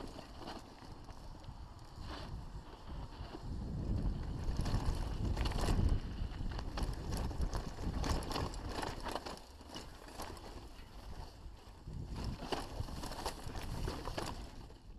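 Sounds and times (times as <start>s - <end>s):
bike clicking and rattling: 0.0s - 14.9s
tyres rumbling on dirt: 0.0s - 14.9s.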